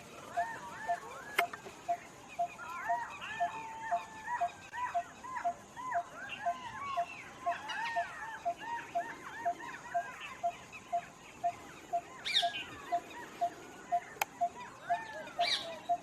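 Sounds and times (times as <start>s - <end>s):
many birds calling: 0.0s - 16.0s.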